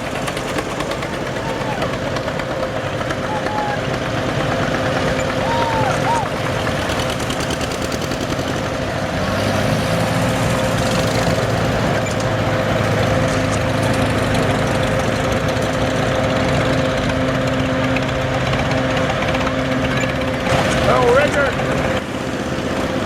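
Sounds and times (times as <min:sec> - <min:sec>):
tractor engines droning: 0:00.0 - 0:23.0.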